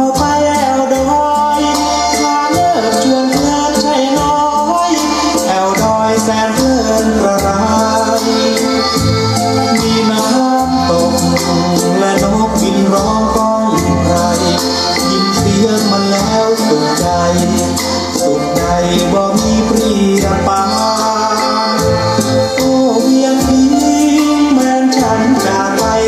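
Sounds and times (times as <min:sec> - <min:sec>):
fast rattling percussion: 0:00.0 - 0:26.0
instrumental music through loudspeaker: 0:00.0 - 0:26.0
pulsing bass line: 0:00.0 - 0:26.0.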